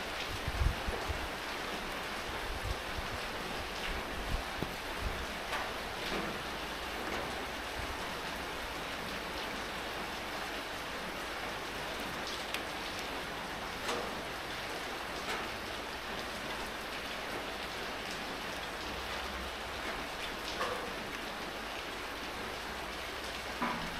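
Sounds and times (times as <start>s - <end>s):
steady rain hiss: 0.0s - 23.9s.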